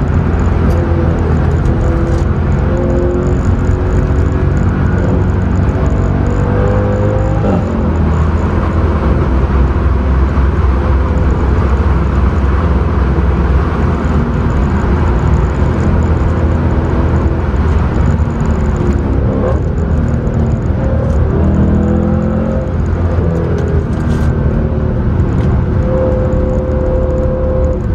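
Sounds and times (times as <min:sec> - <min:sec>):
car engine under load: 0:00.0 - 0:27.9
road and tyre rumble: 0:00.0 - 0:27.9.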